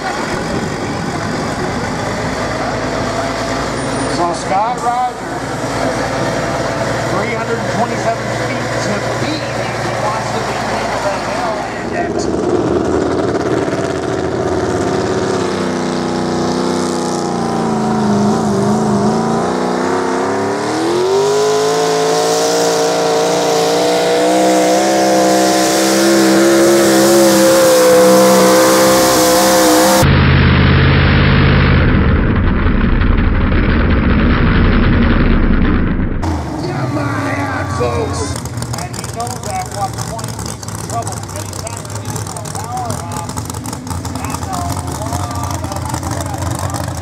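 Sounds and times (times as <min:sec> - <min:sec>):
rough engine rumble: 0:00.0 - 0:47.0
truck engine straining: 0:00.0 - 0:47.0.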